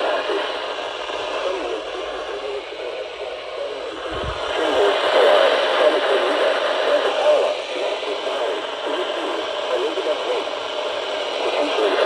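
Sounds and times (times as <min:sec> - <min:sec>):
tinny radio voice: 0:00.0 - 0:12.0.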